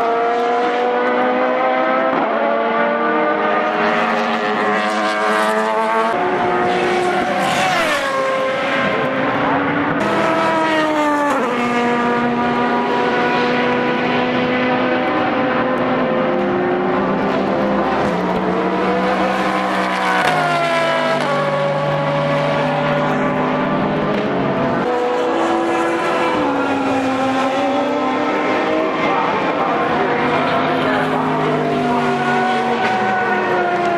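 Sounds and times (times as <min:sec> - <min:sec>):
race car engine at speed: 0:00.0 - 0:33.9.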